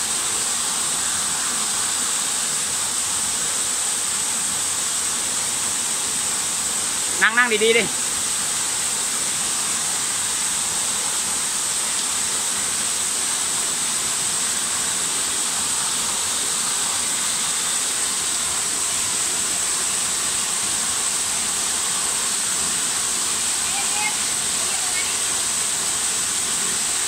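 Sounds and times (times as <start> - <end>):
small waterfall rushing: 0.0 - 27.0.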